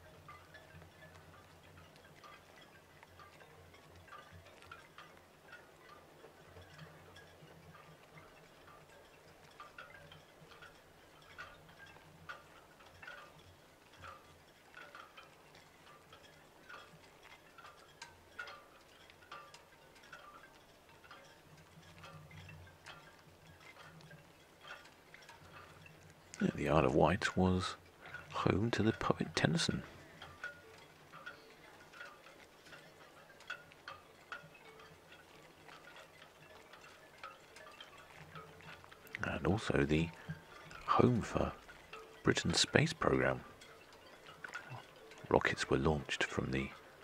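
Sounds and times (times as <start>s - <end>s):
faint chime-like tones: 0.0s - 47.0s.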